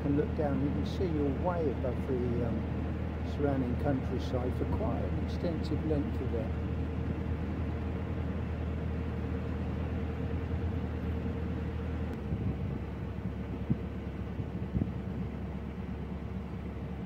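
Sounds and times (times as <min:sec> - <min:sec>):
constant hum: 0:00.0 - 0:17.0
diesel engine drone: 0:00.0 - 0:17.0.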